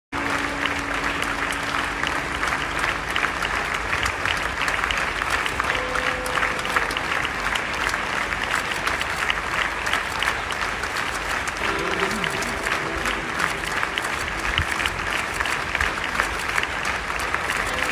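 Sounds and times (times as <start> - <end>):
crowd applauding: 0.2 - 17.9.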